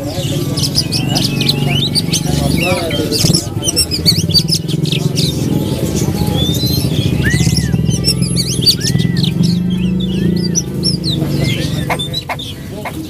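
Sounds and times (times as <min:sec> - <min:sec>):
low background rumble: 0:00.0 - 0:13.0
songbirds chirping and whistling: 0:00.0 - 0:13.0.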